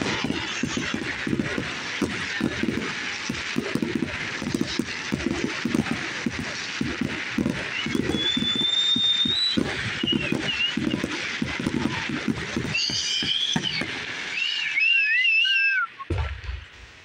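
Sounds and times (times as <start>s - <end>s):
fireworks crackling and popping: 0.0s - 17.0s
fireworks whistling: 0.0s - 17.0s.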